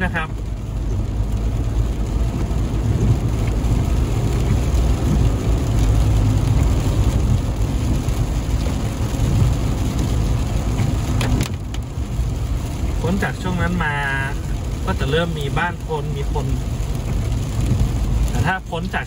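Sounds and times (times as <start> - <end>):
tyre and engine rumble: 0.0 - 19.0.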